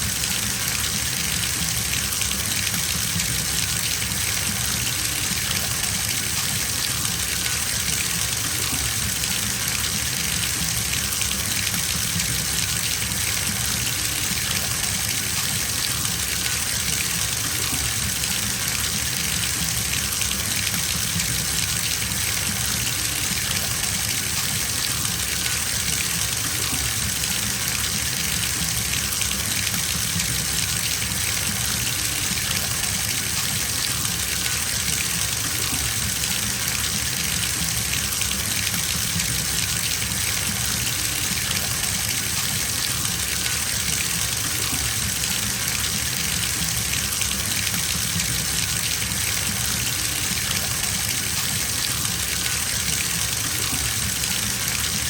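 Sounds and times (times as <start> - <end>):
tap water gushing into bathtub: 0.0 - 55.0.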